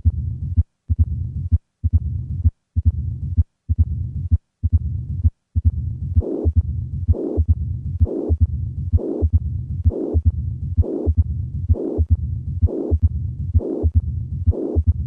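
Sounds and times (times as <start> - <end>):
low rumbling heart murmur: 0.0 - 15.0.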